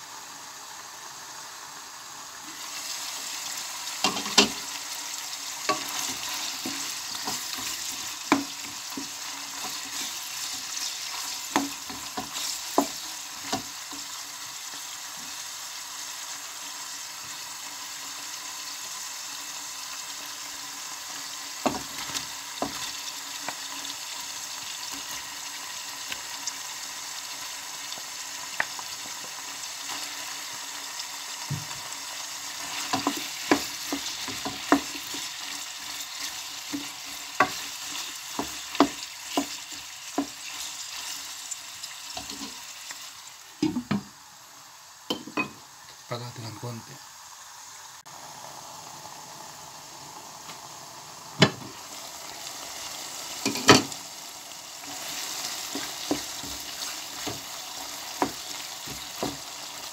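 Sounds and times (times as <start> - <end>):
pork sizzling in a pot: 0.0 - 59.9.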